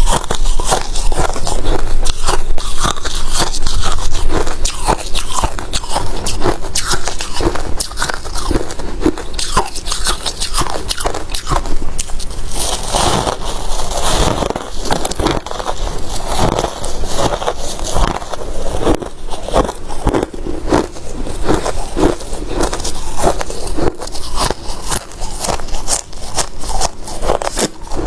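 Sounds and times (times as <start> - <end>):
ice being chewed crunching: 0.0 - 28.0.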